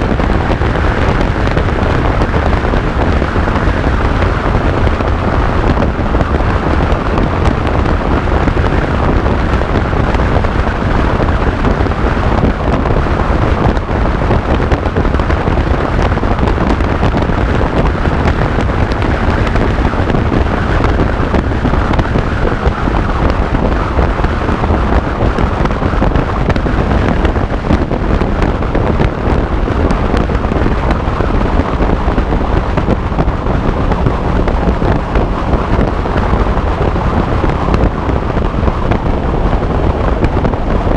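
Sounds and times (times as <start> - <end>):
motorcycle running: 0.0 - 40.9
road noise: 0.0 - 40.9
wind buffeting microphone: 0.0 - 40.9.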